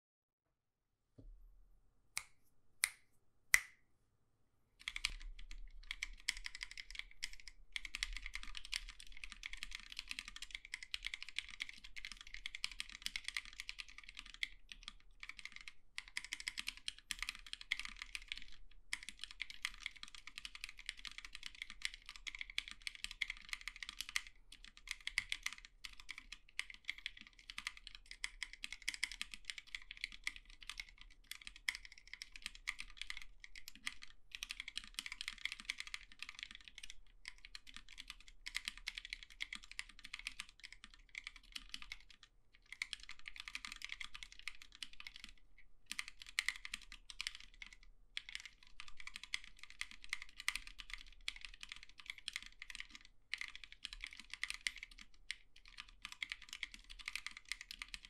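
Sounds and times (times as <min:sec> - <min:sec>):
mechanical keyboard typing: 0:04.8 - 0:58.0.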